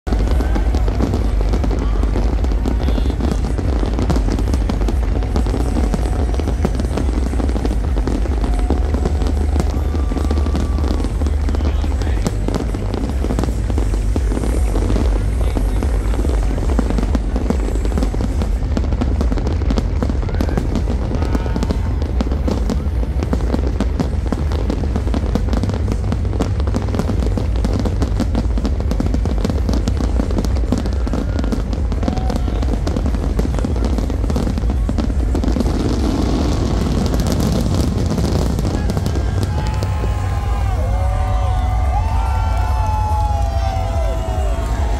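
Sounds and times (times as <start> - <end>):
fireworks bursting and crackling: 0.0 - 44.9
loud music with heavy bass: 0.1 - 44.9.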